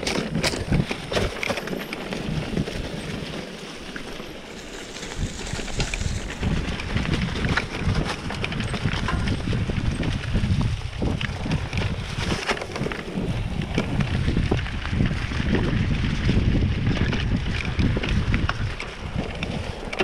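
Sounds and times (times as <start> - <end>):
bike rattles and clicks: 0.0 - 20.0
tyre noise on dirt trail: 0.0 - 20.0
wind buffeting microphone: 0.0 - 20.0.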